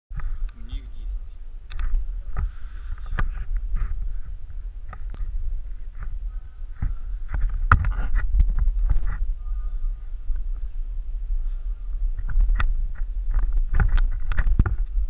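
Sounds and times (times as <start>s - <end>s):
slackline rumbling: 0.1s - 15.0s.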